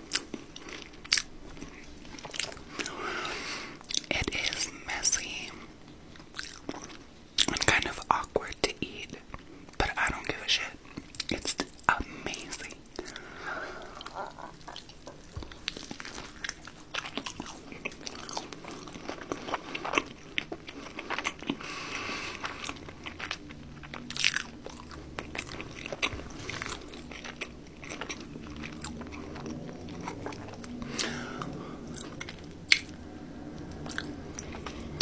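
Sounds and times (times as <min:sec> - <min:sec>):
crunchy fried chicken chewing: 0:00.0 - 0:04.6, 0:06.2 - 0:08.0, 0:12.4 - 0:35.0.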